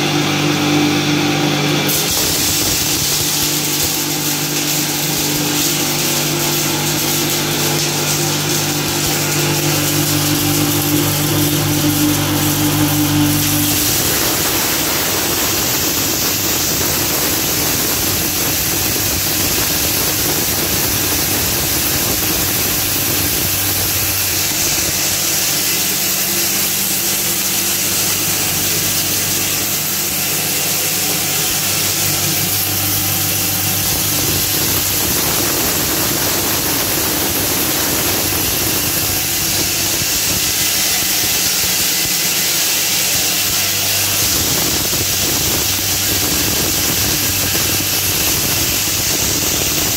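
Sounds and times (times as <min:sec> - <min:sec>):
grinding mill running: 0:00.0 - 0:49.9.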